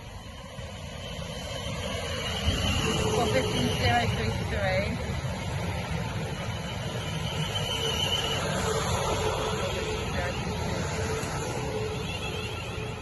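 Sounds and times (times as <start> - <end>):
electric train rumble and whine: 0.0 - 13.0.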